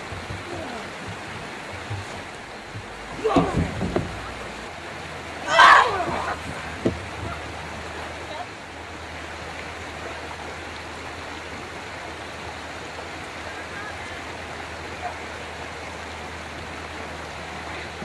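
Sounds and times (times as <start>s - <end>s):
water spilling into pond: 0.0s - 18.0s.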